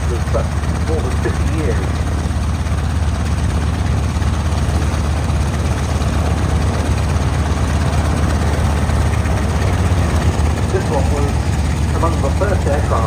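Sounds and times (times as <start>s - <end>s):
radial piston engine rumbling: 0.0s - 13.0s.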